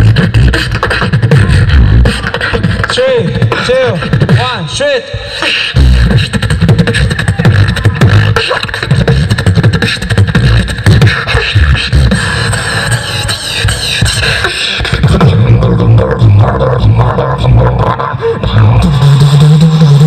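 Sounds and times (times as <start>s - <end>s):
human beatboxing: 0.0s - 20.0s
high-pitched vocal line: 0.2s - 9.0s, 11.0s - 19.2s.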